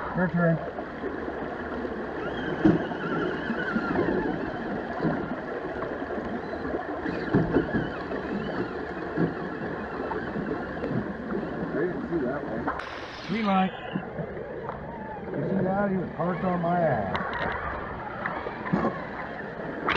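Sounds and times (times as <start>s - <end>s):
water splashes: 0.0s - 19.9s.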